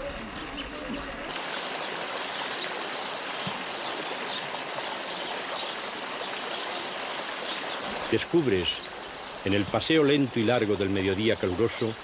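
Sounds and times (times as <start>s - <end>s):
river flowing over stones: 0.0s - 12.0s.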